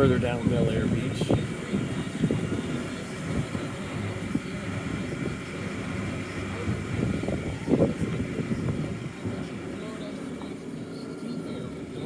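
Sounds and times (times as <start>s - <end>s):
vehicle road and engine rumble: 0.0s - 12.0s.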